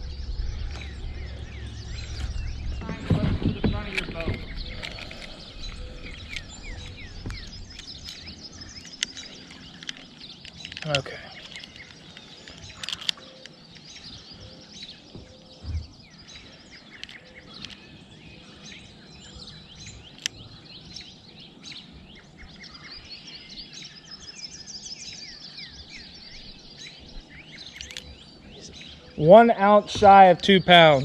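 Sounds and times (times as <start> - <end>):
birds singing and chirping: 0.0 - 31.0.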